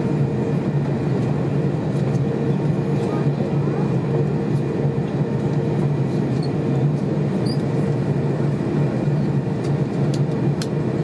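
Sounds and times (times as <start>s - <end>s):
aircraft cabin rumble and hum: 0.0s - 11.0s.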